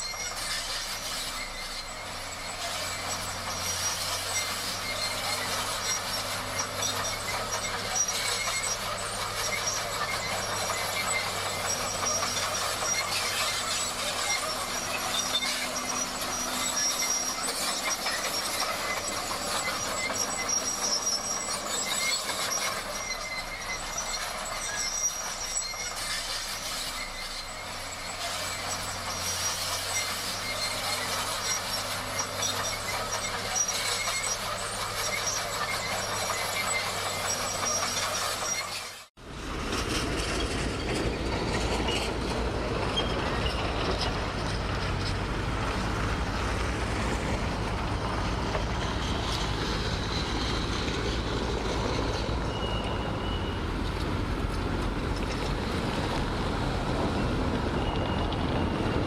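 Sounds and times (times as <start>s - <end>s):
high mechanical squeal: 0.0s - 39.1s, 39.8s - 59.0s
bulldozer clattering: 0.0s - 59.0s.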